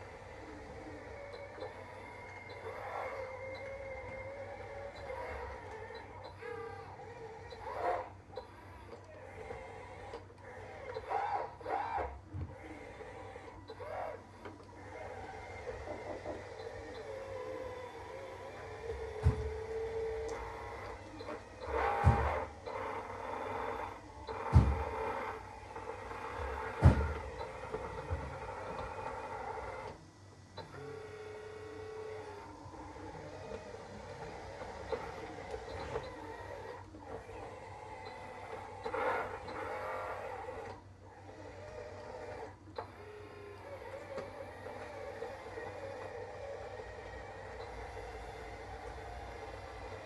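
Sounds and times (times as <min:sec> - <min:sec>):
small electric motors whining: 0:00.0 - 0:50.0.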